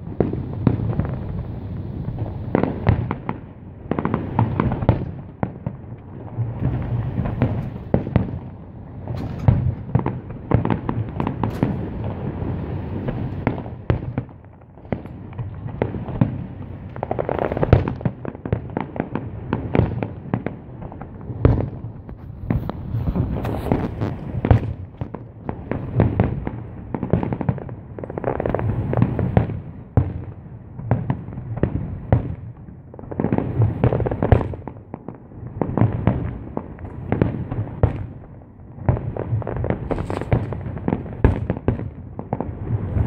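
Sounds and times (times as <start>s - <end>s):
fireworks bangs and crackle: 0.0s - 43.0s.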